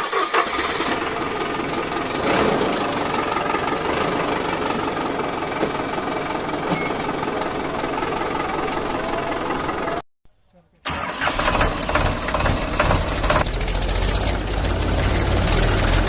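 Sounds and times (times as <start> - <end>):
rattling engine running: 0.0 - 10.0, 10.9 - 16.0.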